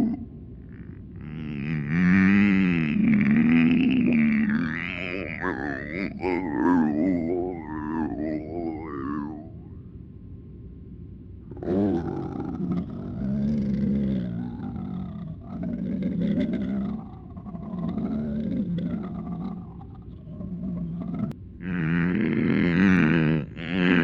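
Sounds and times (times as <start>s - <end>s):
distorted voice-like groaning: 0.0s - 9.7s, 11.5s - 24.0s.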